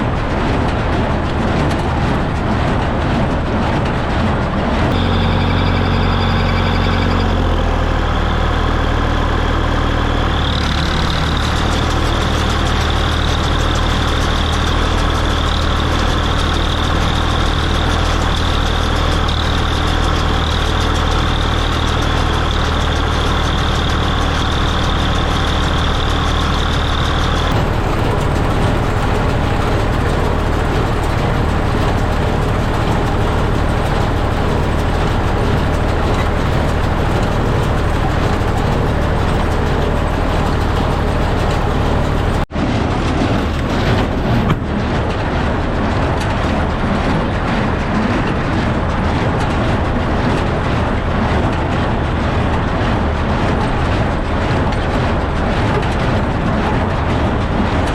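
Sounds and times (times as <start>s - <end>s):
tractor engine running: 0.0s - 57.9s
high steady whine: 3.9s - 52.7s.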